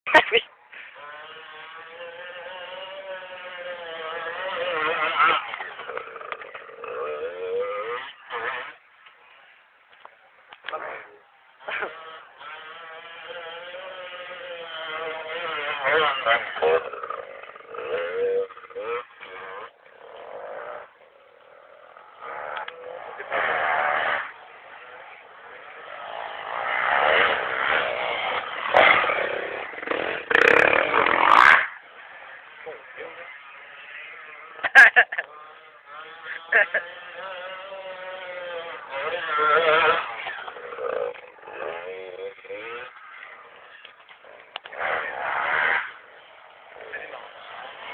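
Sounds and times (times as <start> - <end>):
dirt bike engine revving: 0.1 - 47.9.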